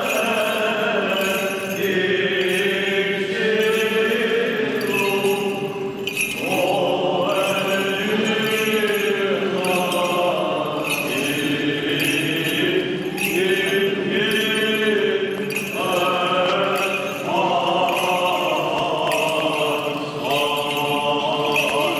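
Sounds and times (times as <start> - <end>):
voices chanting melismatic notes: 0.0 - 21.9.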